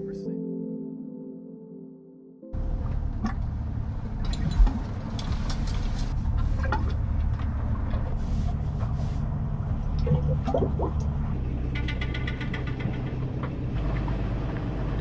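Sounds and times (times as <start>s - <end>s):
boat engine low rumble: 2.6s - 15.0s.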